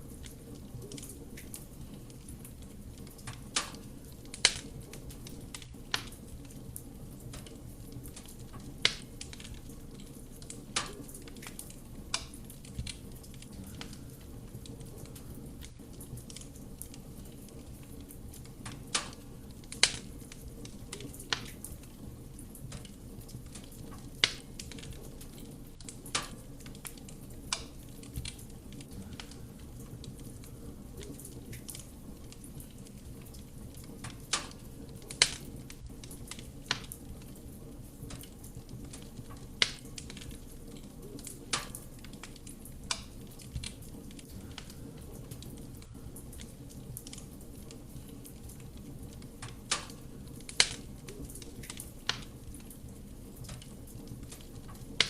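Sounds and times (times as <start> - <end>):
fire flames rumbling: 0.0 - 55.0
logs crackling and popping: 0.0 - 55.0.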